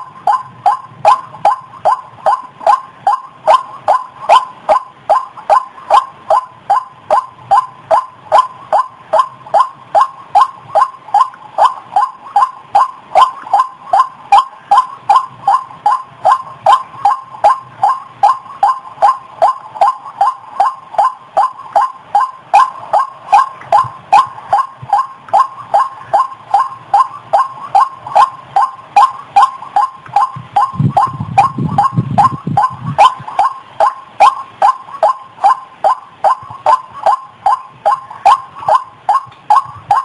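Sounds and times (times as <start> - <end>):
waterhen harsh repeated call: 0.0 - 40.0.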